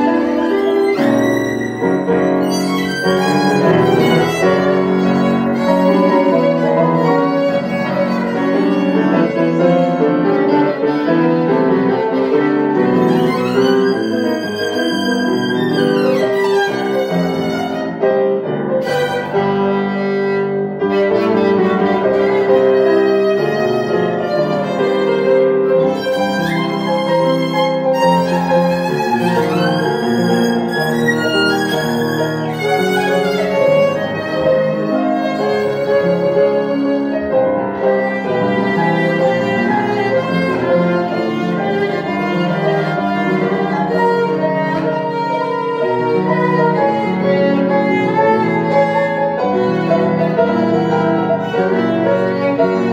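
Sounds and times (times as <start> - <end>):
piano accompaniment: 0.0 - 52.9
violin melody: 0.0 - 52.9.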